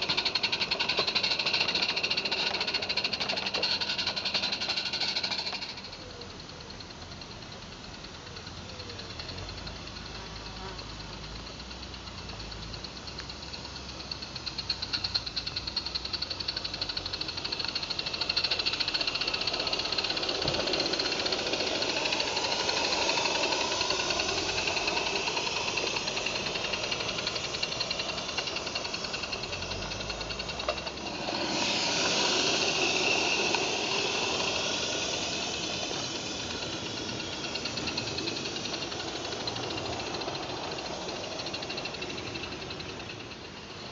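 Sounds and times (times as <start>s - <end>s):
steam hiss: 0.0s - 43.9s
steam locomotive chuffing: 0.0s - 43.9s
wagons rattling over track: 0.0s - 43.9s.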